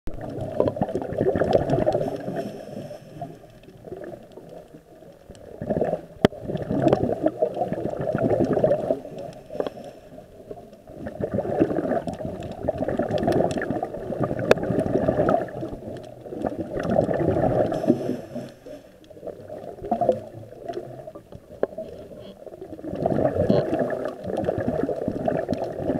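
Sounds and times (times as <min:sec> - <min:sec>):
scuba regulator bubbles gurgling: 0:00.1 - 0:25.9.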